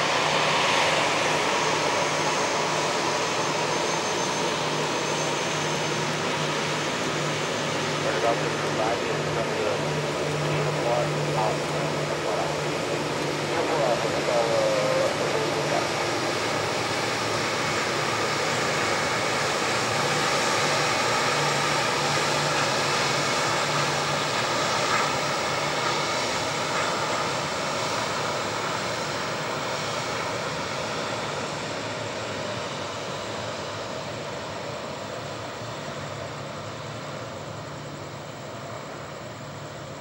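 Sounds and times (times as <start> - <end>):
jet engines taxiing: 0.0 - 40.0.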